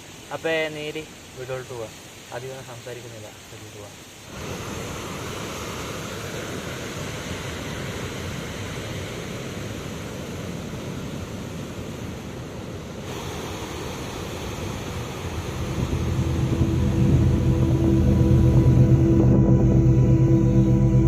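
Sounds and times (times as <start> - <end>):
surf and breaking waves: 0.0 - 20.4.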